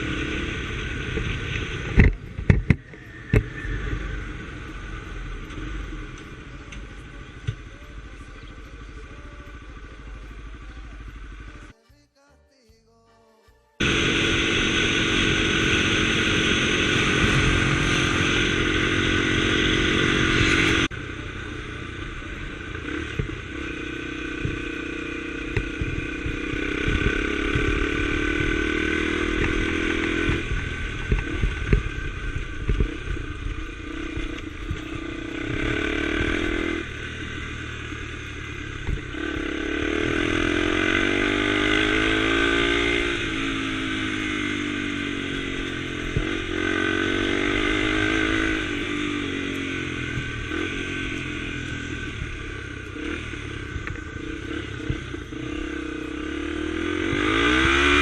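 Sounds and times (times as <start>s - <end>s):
motorcycle engine running: 0.0s - 11.8s, 13.8s - 58.0s.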